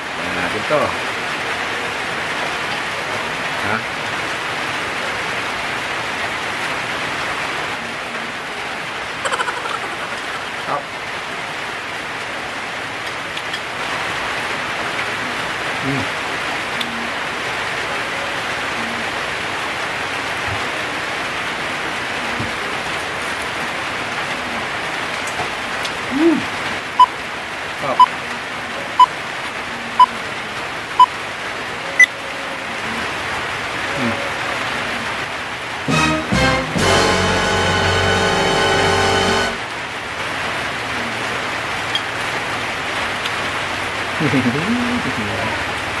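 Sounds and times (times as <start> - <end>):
steady rain-like hiss: 0.0 - 46.0.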